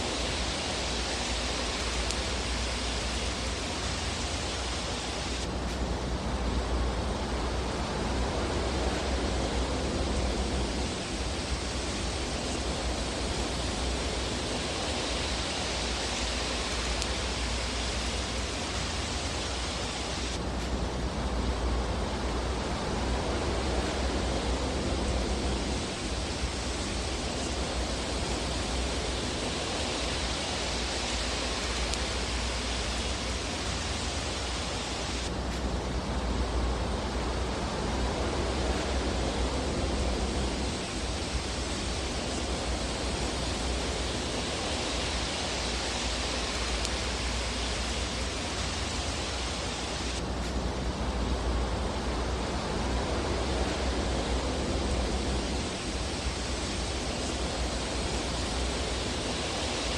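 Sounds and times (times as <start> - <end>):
fire burning in fireplace: 0.0 - 59.9.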